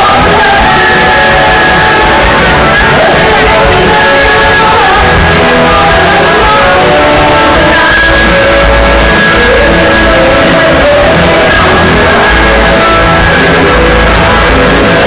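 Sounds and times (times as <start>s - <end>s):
live rock band: 0.0s - 15.0s
woman singing: 0.0s - 15.0s.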